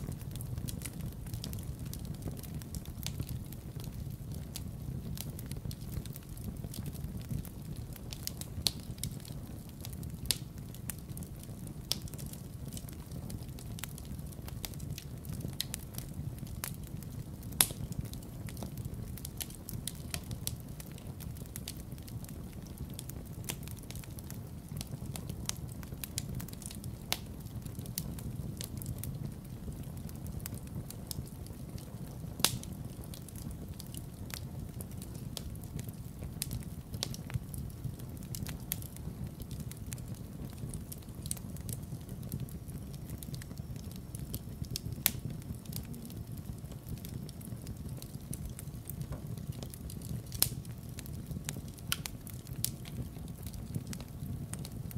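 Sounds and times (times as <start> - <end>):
fire crackling and popping: 0.0 - 54.9
fire flames rumbling: 0.0 - 54.9.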